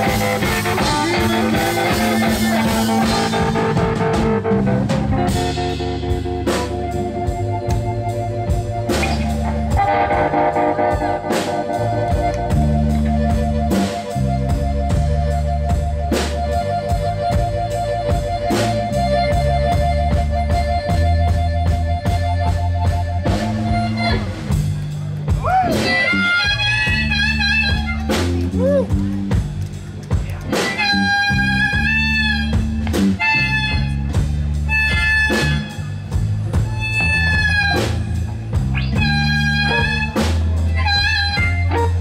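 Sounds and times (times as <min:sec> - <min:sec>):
harmonica: 0:00.0 - 0:24.8, 0:25.4 - 0:29.2, 0:30.5 - 0:42.0
drums: 0:00.0 - 0:42.0
electric bass: 0:00.0 - 0:42.0
electric guitar: 0:00.0 - 0:42.0.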